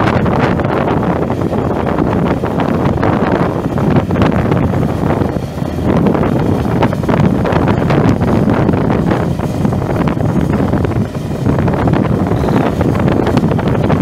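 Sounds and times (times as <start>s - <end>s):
low engine drone: 0.0s - 14.0s
wind buffeting microphone: 0.0s - 14.0s.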